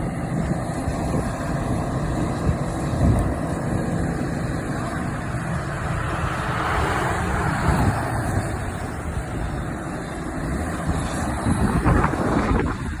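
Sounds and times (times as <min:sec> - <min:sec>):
fire engine rumbling: 0:00.0 - 0:13.0
wind buffeting microphone: 0:00.0 - 0:13.0.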